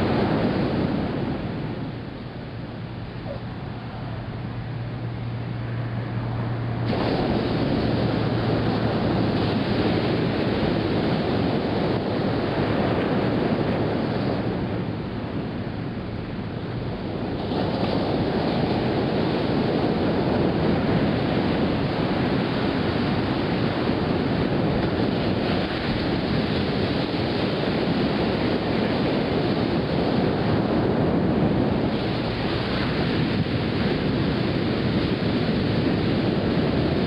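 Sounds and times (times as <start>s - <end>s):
ocean surf washing in: 0.0s - 37.0s
wind buffeting microphone: 0.0s - 37.0s.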